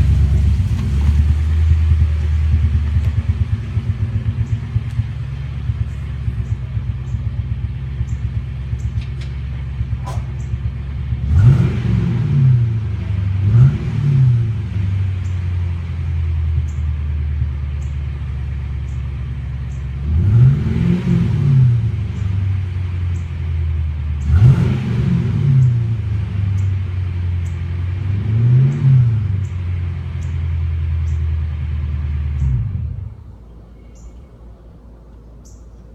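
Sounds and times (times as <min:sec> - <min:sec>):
engine revving: 0:00.0 - 0:33.2
car engine idling with misfire: 0:00.0 - 0:34.1.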